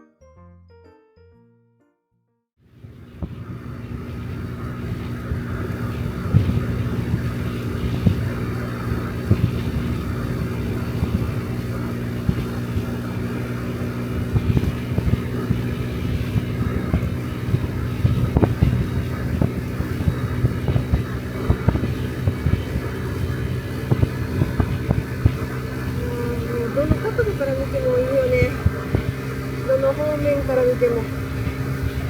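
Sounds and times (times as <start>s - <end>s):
scooter engine running: 2.7s - 32.0s
wind gusting on microphone: 2.8s - 32.0s.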